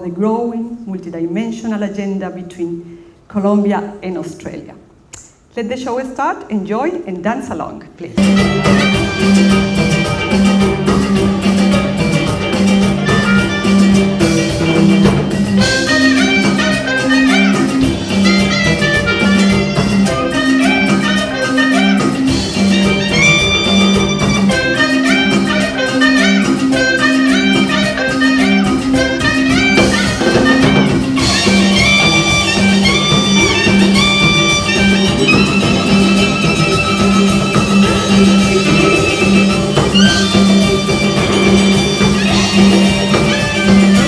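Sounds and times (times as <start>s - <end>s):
band playing latin dance music: 8.2s - 44.0s.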